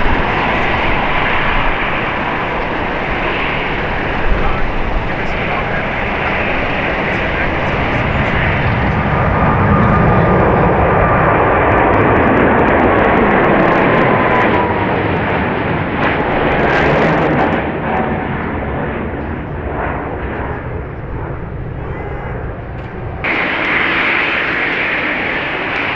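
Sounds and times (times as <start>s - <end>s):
faint engine whine: 0.0s - 15.2s, 15.9s - 25.9s
jet engines roaring past: 0.0s - 25.9s.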